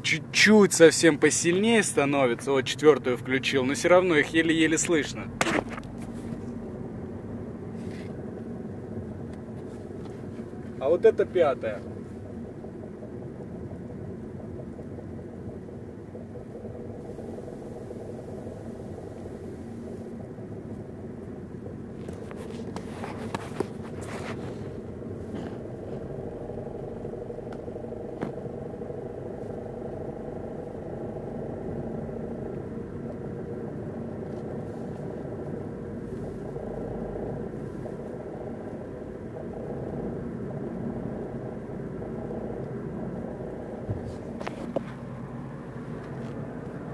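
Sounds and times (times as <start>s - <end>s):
car engine and road drone: 0.0s - 46.9s.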